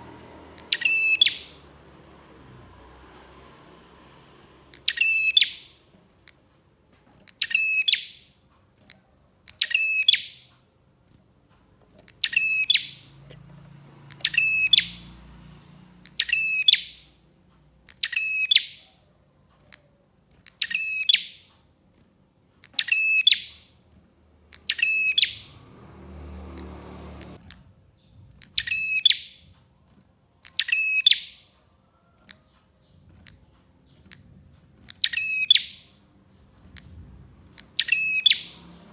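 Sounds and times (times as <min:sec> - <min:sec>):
small bird calling: 0:00.0 - 0:03.0, 0:04.4 - 0:06.5, 0:07.2 - 0:10.7, 0:12.0 - 0:21.7, 0:22.6 - 0:25.7, 0:26.3 - 0:29.5, 0:30.4 - 0:38.8.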